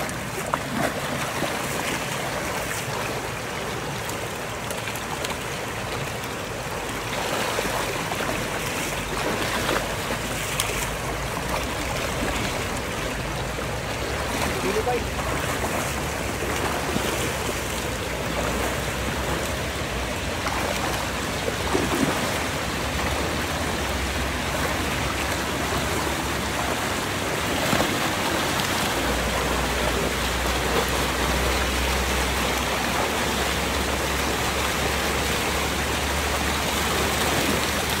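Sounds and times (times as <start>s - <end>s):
water rushing over a weir: 0.0s - 38.0s
water splashes: 0.0s - 38.0s.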